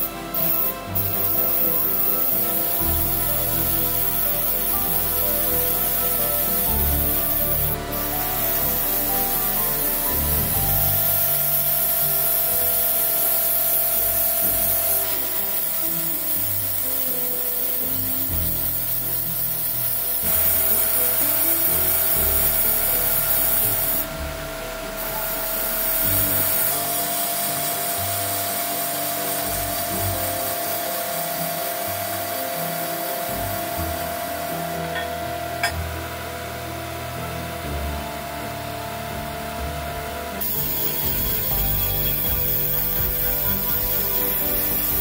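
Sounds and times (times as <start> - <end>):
power tool grinding metal: 0.0 - 36.7, 39.0 - 45.0
background music: 0.0 - 45.0.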